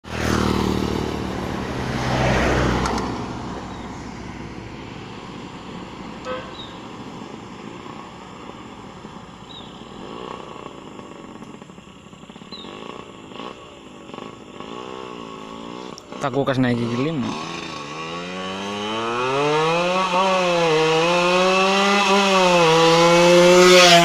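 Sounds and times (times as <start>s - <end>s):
two-stroke motorcycle accelerating past: 0.0s - 24.0s.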